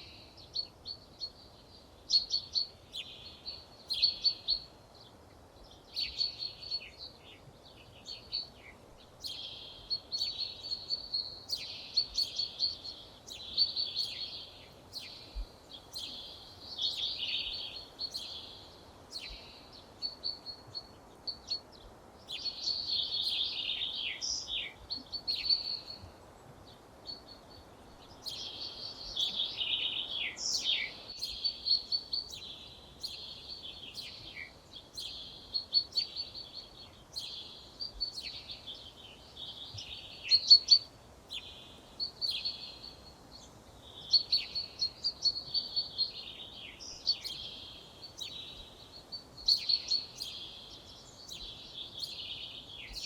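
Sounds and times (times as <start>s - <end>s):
faint background hiss: 0.0s - 53.0s
songbirds singing: 0.0s - 53.0s.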